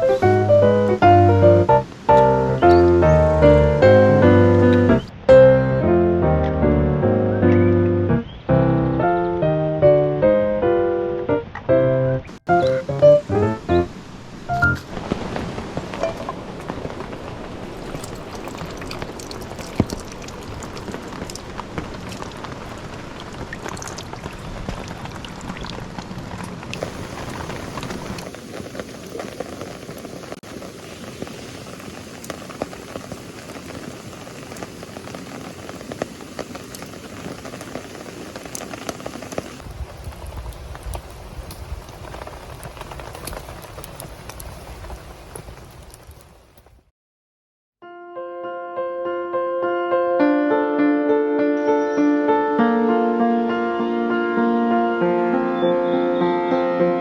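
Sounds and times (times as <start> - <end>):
steady rain with drop ticks: 0.0 - 8.1, 9.0 - 46.9.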